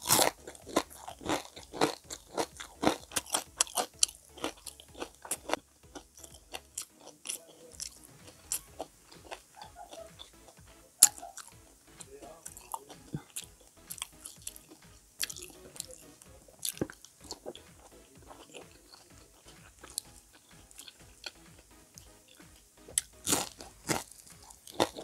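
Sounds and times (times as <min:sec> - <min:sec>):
chewing crispy fritter: 0:00.0 - 0:25.0.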